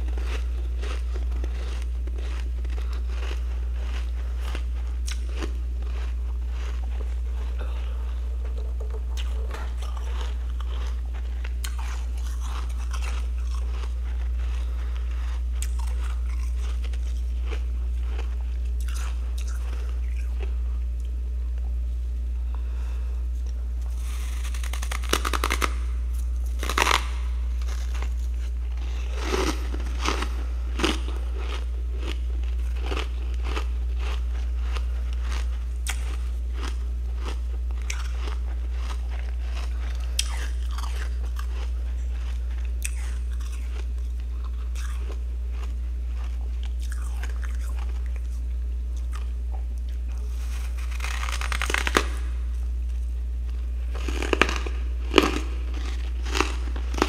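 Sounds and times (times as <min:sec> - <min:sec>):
frost crunching being chewed: 0:00.0 - 0:21.8, 0:22.5 - 0:57.0
steady low hum: 0:00.0 - 0:57.0.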